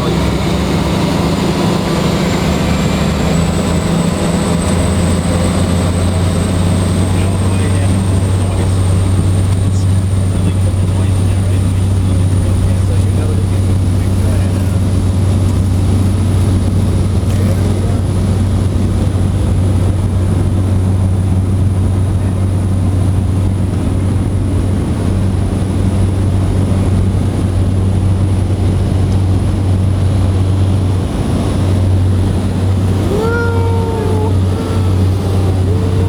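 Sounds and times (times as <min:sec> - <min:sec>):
engine droning: 0:00.0 - 0:36.0.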